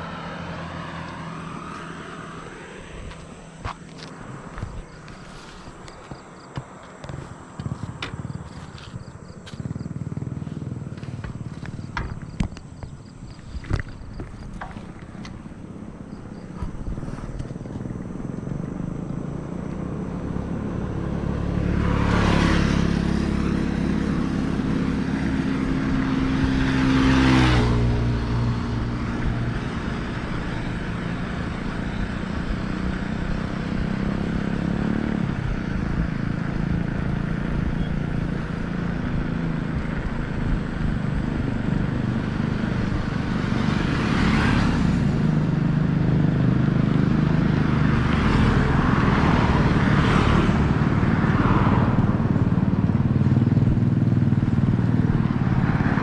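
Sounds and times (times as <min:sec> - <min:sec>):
bicycle tyres rolling on road: 0:00.0 - 0:56.0
motor vehicles passing: 0:00.0 - 0:56.0.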